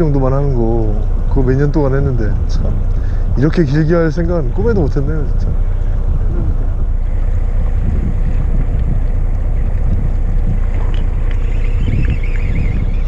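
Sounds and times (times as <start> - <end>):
boat engine rumbling: 0.0 - 13.0
wind buffeting microphone: 0.0 - 13.0.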